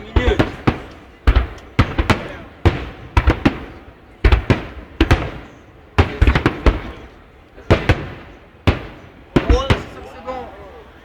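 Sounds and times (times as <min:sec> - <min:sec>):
fireworks exploding: 0:00.0 - 0:10.4.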